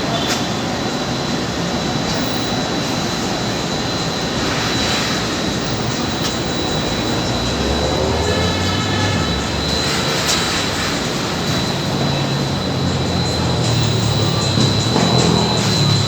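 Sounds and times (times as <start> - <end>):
engine roar: 1.2 - 16.0.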